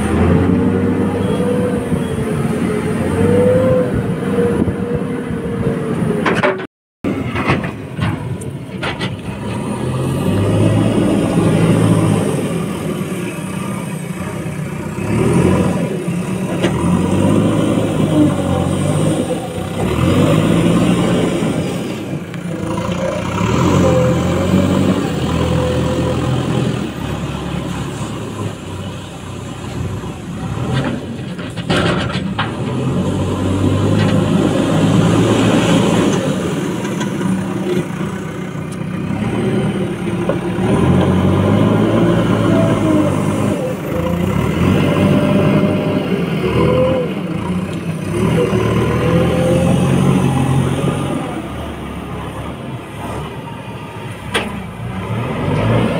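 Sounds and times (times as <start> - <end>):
diesel engine revving: 0.0 - 6.5, 7.1 - 55.9.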